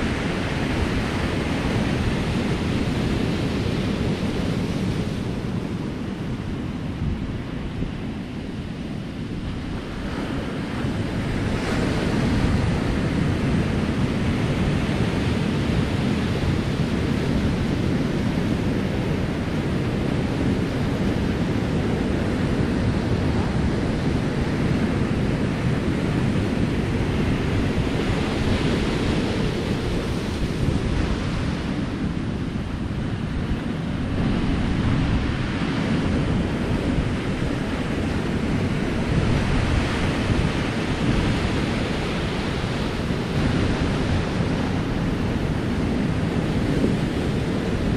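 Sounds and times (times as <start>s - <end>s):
wind rumbling on microphone: 0.0s - 47.9s
surf breaking on rocky shore: 9.2s - 47.9s.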